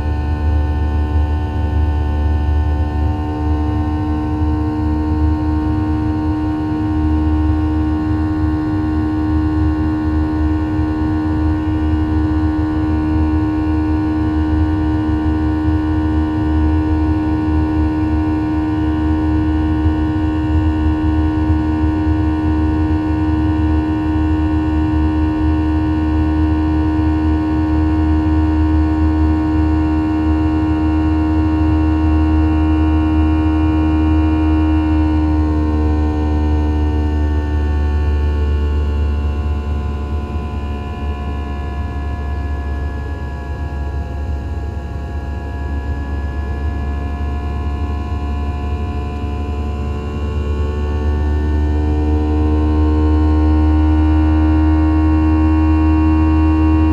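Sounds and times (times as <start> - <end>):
jet engines humming in cabin: 0.0 - 56.9.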